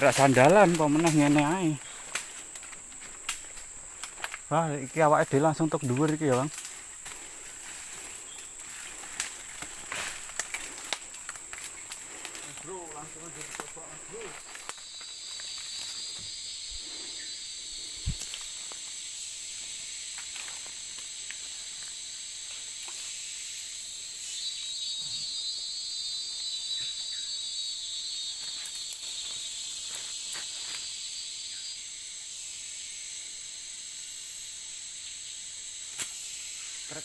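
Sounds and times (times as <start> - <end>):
insects droning: 0.0 - 37.0
rapid insect trilling: 0.0 - 37.0.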